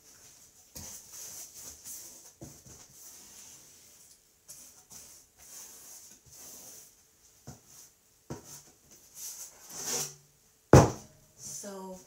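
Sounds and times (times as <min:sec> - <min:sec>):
paintbrush scrubbing on panel: 0:00.3 - 0:10.1.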